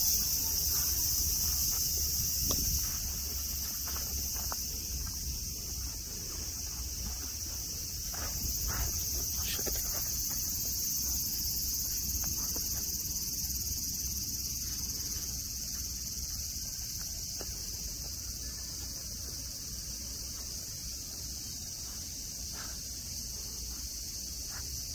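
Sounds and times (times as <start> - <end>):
cicadas droning: 0.0 - 24.9.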